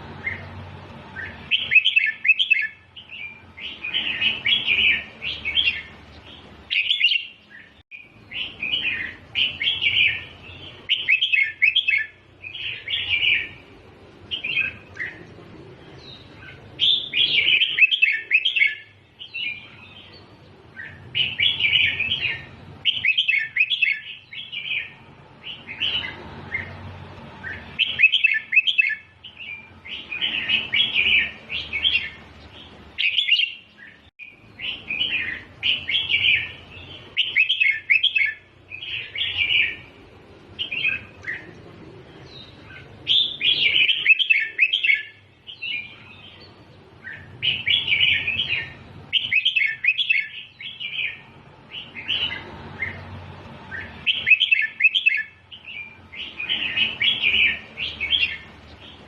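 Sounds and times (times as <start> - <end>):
bird singing warbled phrases: 0.0 - 59.0.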